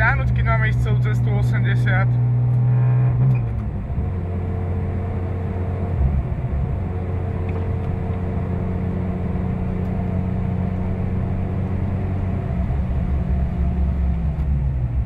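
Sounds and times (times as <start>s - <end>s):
car engine droning: 0.0s - 15.0s
road and tyre noise: 0.0s - 15.0s.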